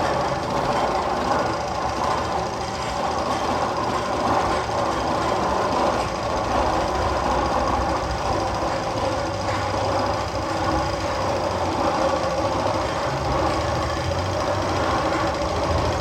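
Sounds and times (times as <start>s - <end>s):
roller coaster rattling and rumbling: 0.0s - 16.0s.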